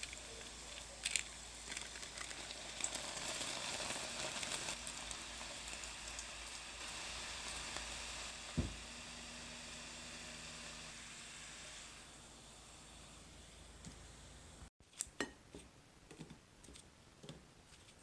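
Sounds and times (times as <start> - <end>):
dough sizzling in hot oil: 0.0 - 14.7.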